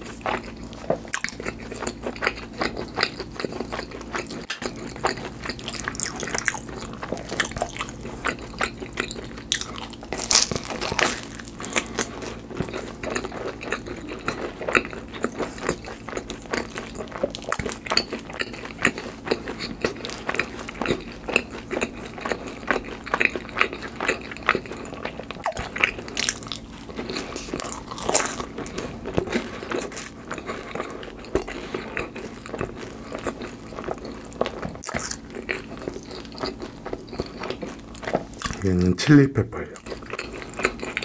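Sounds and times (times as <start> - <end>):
person chewing food: 0.0 - 39.0, 39.6 - 41.0
wet smacking and crunching: 0.3 - 38.7.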